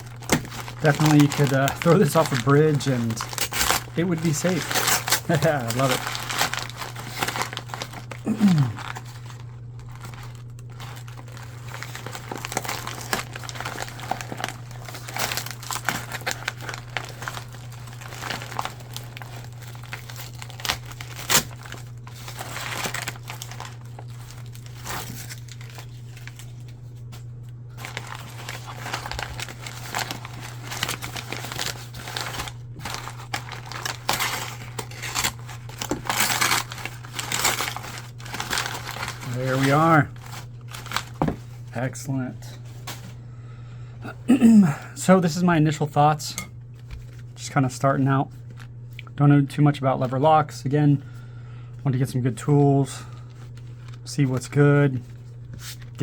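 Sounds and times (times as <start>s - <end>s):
packaging crinkling and rustling: 0.0s - 43.2s, 46.7s - 47.4s, 48.3s - 49.1s, 52.4s - 56.0s
low steady hum: 0.0s - 56.0s.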